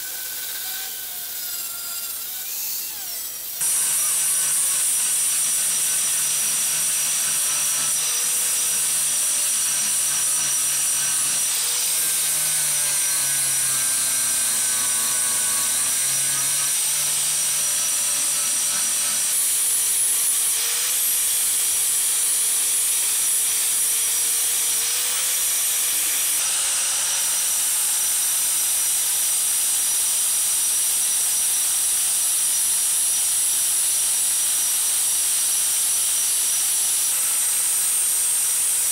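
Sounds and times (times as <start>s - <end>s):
angle grinder grinding steel: 0.0s - 38.9s.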